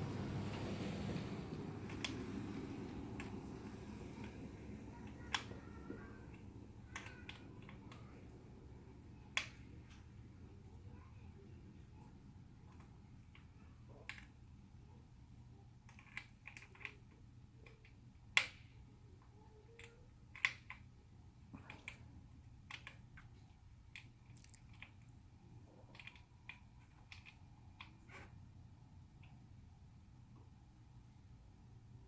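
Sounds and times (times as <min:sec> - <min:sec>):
light clicks and taps: 0:00.0 - 0:14.5, 0:15.8 - 0:28.4
low steady hum: 0:00.0 - 0:32.0.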